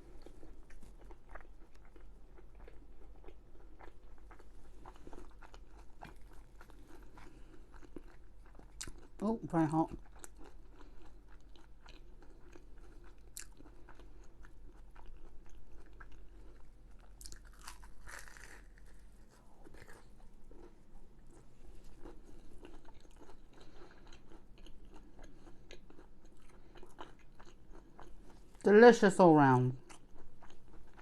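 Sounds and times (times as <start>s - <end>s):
person chewing crunchy food: 0.0s - 28.7s, 29.8s - 31.0s.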